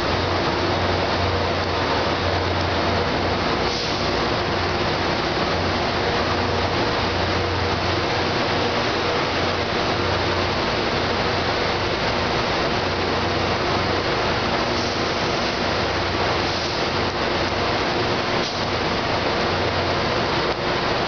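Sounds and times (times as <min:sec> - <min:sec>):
locomotive running: 0:00.0 - 0:21.0.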